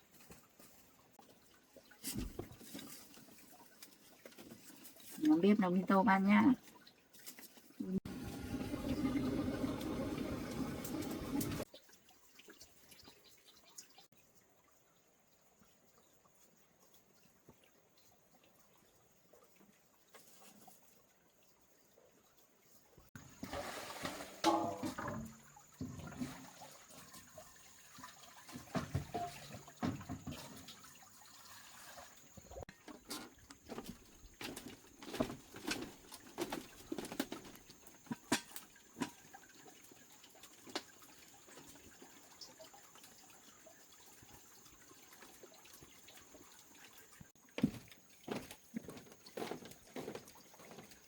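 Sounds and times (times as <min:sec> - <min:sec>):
water splashing and dripping: 0:00.0 - 0:51.0.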